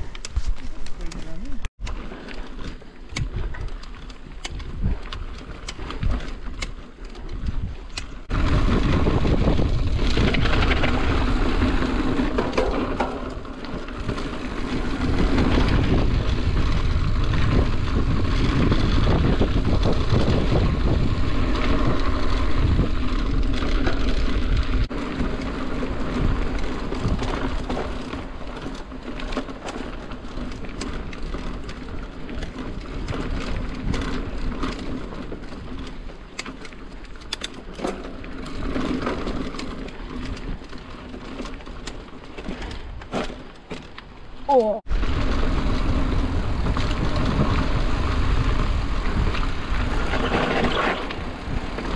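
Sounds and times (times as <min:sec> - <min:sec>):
bike rattling over bumps: 0:00.0 - 0:51.9.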